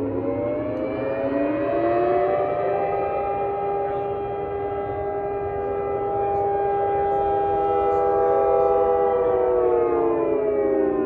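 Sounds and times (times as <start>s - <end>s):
warning siren: 0.0s - 11.0s.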